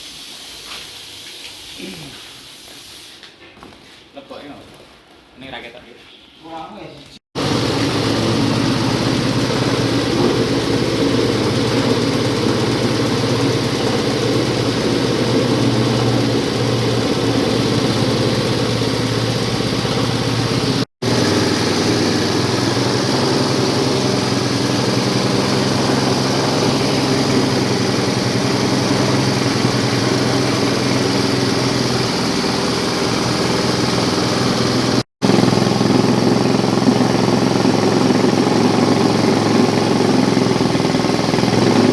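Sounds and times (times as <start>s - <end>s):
grating machine mechanical hum: 7.4s - 41.9s.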